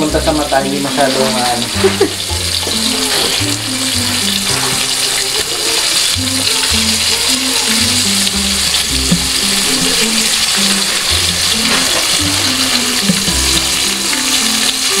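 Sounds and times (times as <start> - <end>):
background music with bass: 0.0 - 15.0
chicken deep-frying in oil: 0.0 - 15.0.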